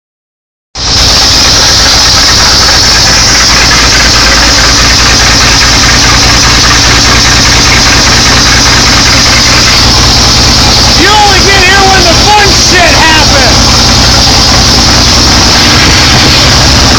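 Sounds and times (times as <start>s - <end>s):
truck engine running: 0.8s - 16.9s.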